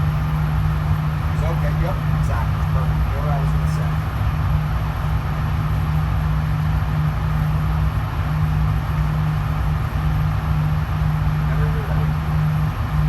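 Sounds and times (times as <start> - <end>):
ventilation droning hum: 0.0 - 13.0.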